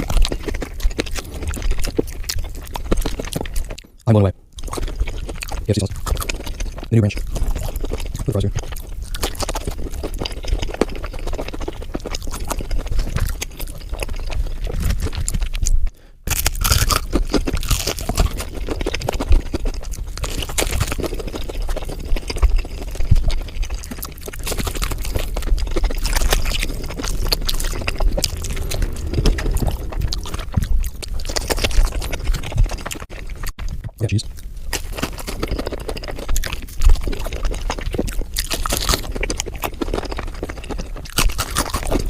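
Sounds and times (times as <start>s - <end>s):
chewing and crunching fried food: 0.0s - 42.0s.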